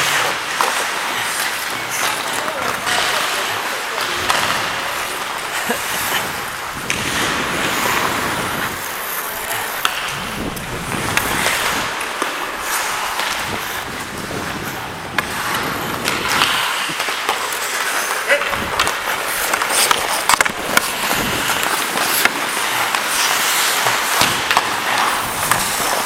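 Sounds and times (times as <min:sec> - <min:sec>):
skate blades scraping ice: 0:00.0 - 0:26.0.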